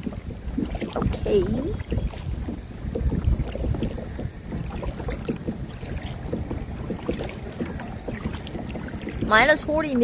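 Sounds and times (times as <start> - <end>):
oars splashing: 0.0 - 10.0
water lapping around boat: 0.0 - 10.0
wind buffeting microphone: 0.0 - 10.0.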